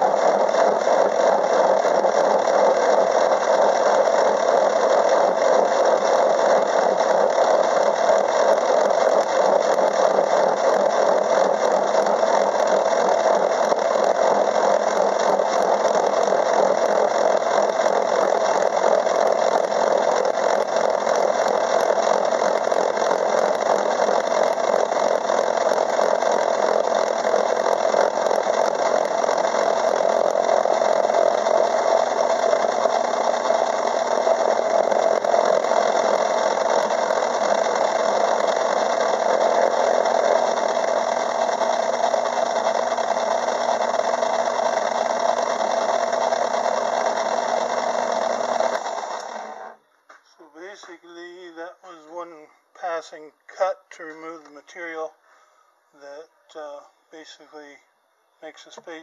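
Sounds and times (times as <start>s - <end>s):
gear cutter cutting steel: 0.0s - 49.8s
metal lathe running: 0.0s - 49.8s.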